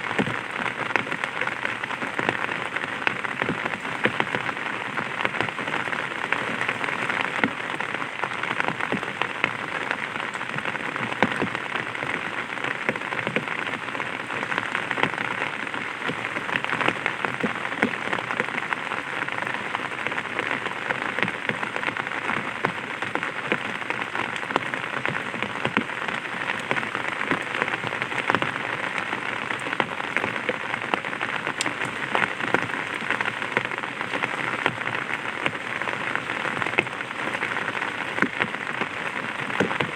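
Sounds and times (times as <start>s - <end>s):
rain pattering on umbrella: 0.0s - 39.9s.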